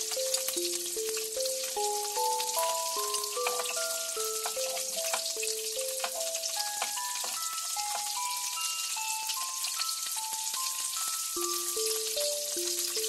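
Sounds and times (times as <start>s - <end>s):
fritters sizzling in oil: 0.0s - 13.0s
simple background melody: 0.0s - 13.0s.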